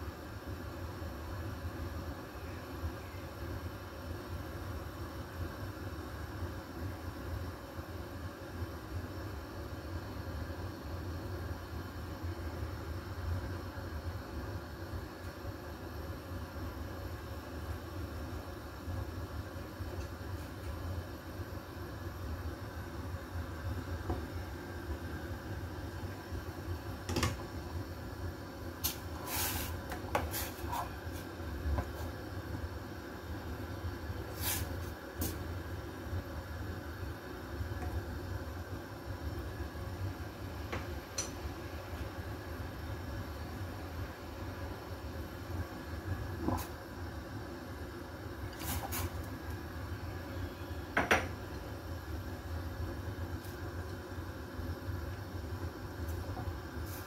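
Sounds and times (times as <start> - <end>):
low hum and hiss: 0.0 - 57.0.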